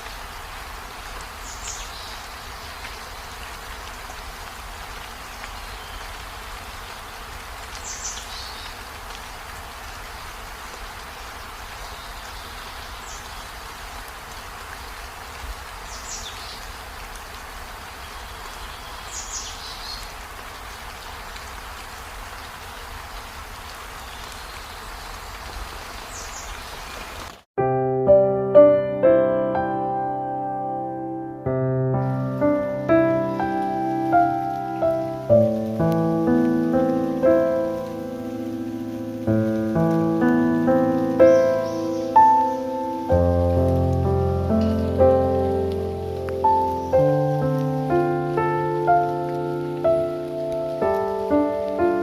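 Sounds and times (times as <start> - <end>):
steady rain falling: 0.0 - 27.5, 31.4 - 52.0.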